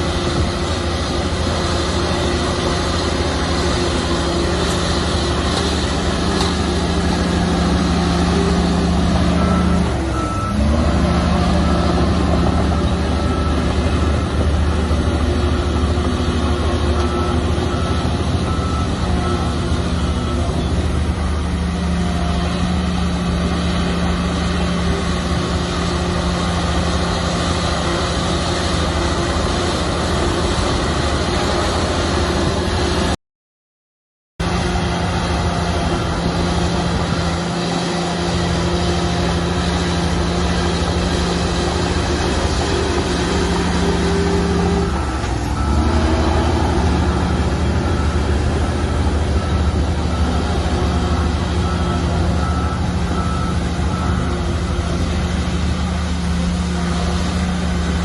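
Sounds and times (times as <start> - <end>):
bulldozer diesel engine: 0.0 - 33.2, 34.4 - 58.0
reversing alarm beeping: 0.3 - 32.9, 34.8 - 57.3.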